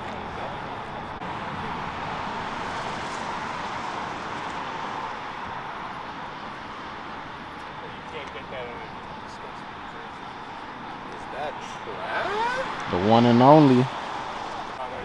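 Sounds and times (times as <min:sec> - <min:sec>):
steady vehicle noise: 0:00.0 - 0:15.0.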